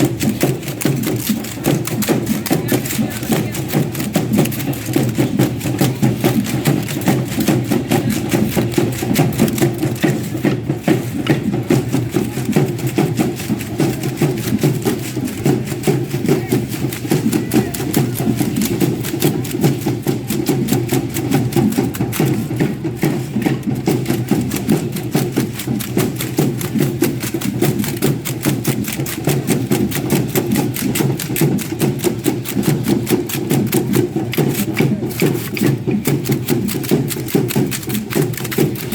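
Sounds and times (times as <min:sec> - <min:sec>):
fast percussive dance music: 0:00.0 - 0:38.9.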